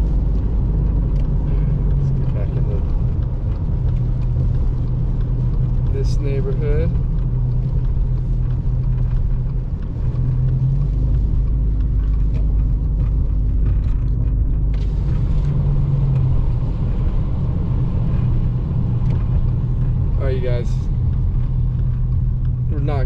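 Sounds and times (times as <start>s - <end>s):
car engine and tyre rumble: 0.0s - 23.0s
faint ticks: 0.3s - 16.3s, 18.1s - 22.8s.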